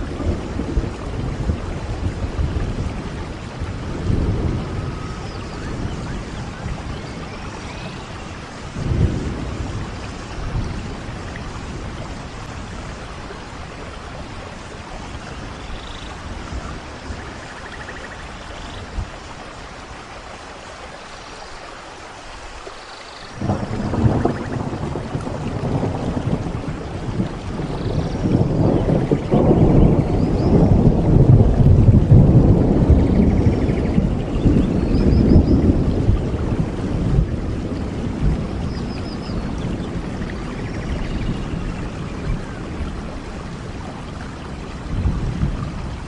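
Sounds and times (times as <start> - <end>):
low thunder rumbles: 0.0 - 19.9, 23.3 - 46.0
heavy rain hissing: 0.0 - 46.0.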